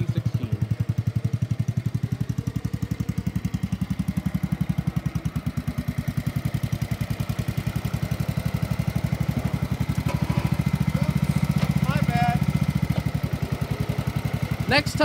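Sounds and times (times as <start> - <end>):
garden tractor engine idling: 0.0 - 15.0.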